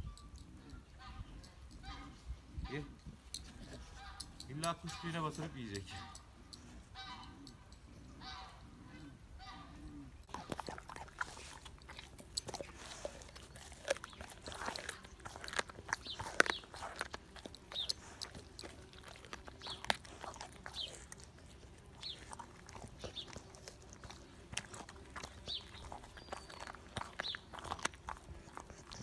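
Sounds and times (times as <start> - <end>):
dog chewing raw meat: 3.3 - 8.4, 10.2 - 29.0.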